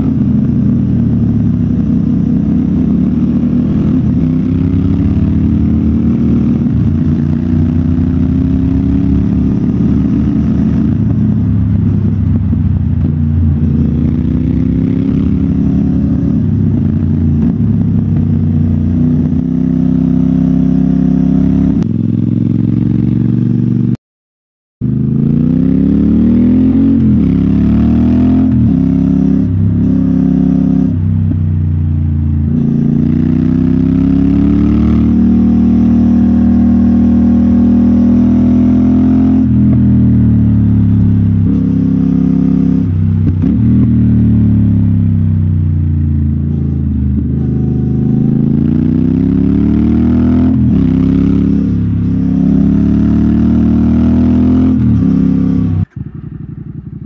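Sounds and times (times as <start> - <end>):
motorcycle engine under load: 0.0 - 24.0, 24.8 - 57.0.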